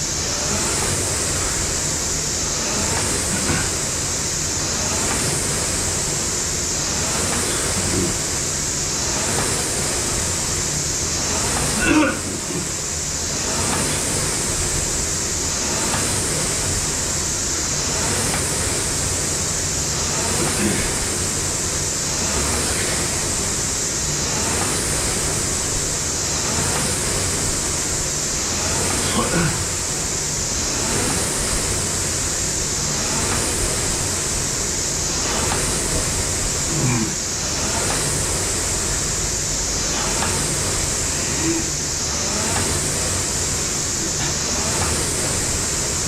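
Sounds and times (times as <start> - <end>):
rowing machine fan whooshing: 0.0 - 46.0.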